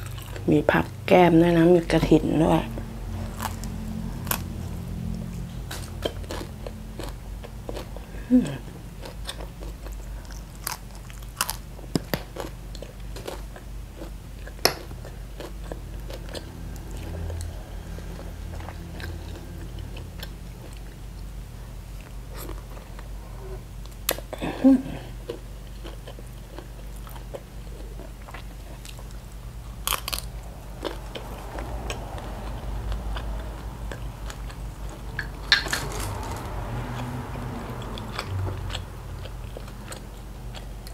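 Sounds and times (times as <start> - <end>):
low steady hum: 0.0 - 40.9
chewing and biting food: 3.2 - 23.1, 25.2 - 40.9.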